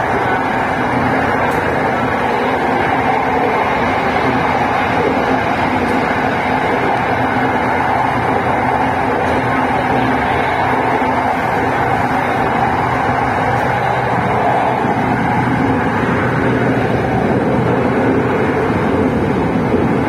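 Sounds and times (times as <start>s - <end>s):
electric train hum and rolling: 0.0s - 20.0s.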